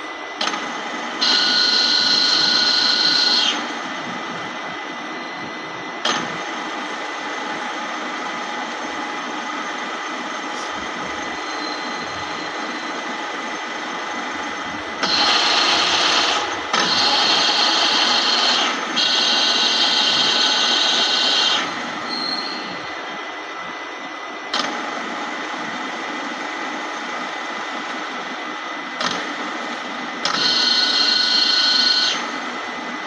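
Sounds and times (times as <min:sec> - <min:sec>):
milling machine whirring: 0:00.0 - 0:33.0.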